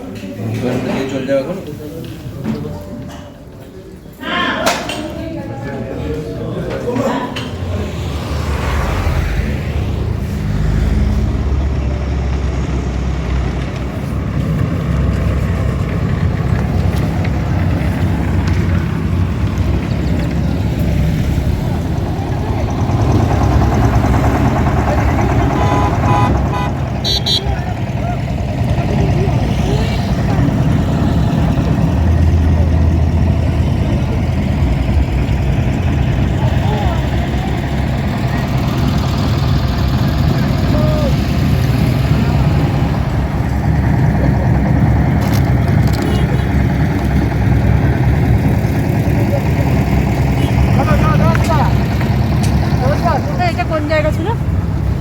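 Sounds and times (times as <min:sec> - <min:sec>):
road noise: 0:00.0 - 0:55.0
vehicle engine running: 0:05.8 - 0:55.0.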